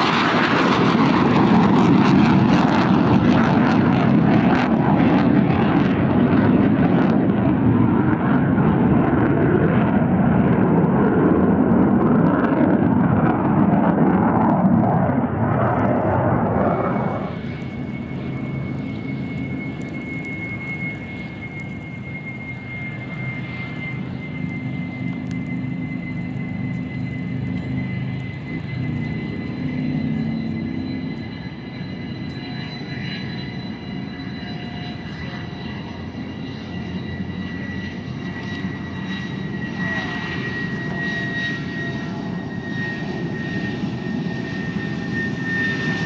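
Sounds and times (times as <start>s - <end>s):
jet engine roar: 0.0s - 46.0s
jet engine whine: 0.0s - 46.0s.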